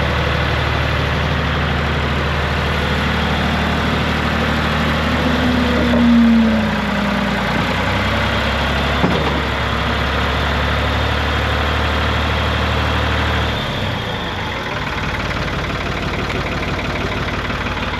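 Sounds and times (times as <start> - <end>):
tractor engine idling: 0.0 - 17.9.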